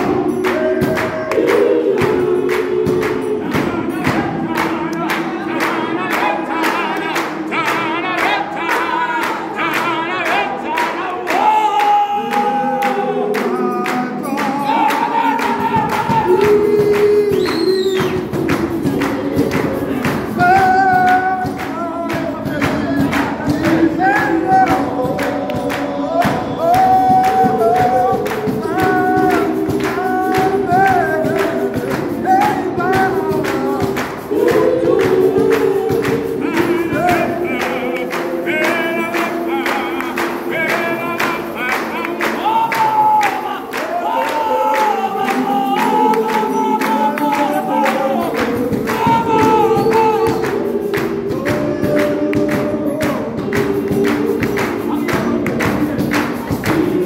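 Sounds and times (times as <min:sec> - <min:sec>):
gospel choir singing: 0:00.0 - 0:57.0
rhythmic hand clapping: 0:00.0 - 0:57.0.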